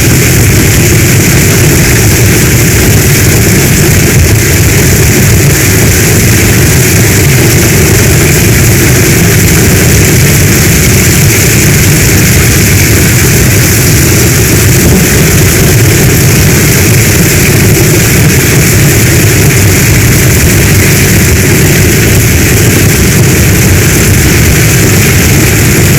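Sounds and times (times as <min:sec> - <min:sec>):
deep low rumble: 0:00.0 - 0:25.9
heavy rain hissing: 0:00.0 - 0:25.9.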